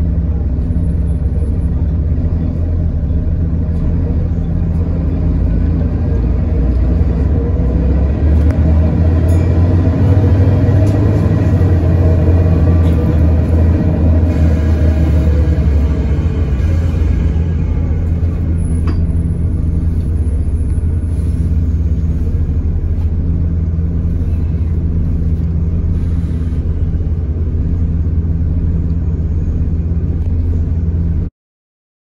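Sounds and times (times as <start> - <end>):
bus engine low rumble: 0.0 - 31.3.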